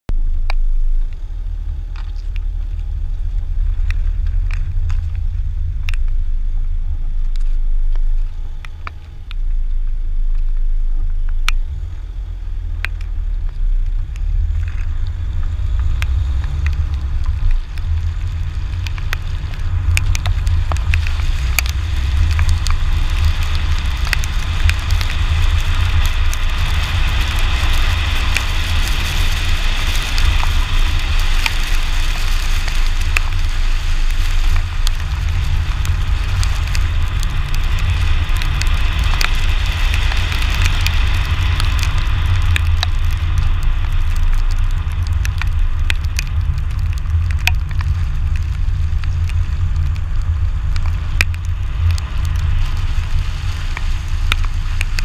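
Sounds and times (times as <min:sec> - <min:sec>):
low rumble of wind and road: 0:00.0 - 0:55.0
raindrops ticking on camera: 0:00.1 - 0:55.0
tyres hissing on wet road: 0:00.2 - 0:55.0.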